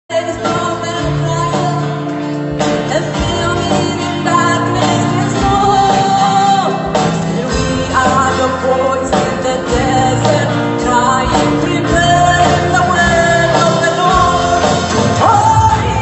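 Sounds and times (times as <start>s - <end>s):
instrumental music: 0.1s - 16.0s
person singing: 0.1s - 16.0s.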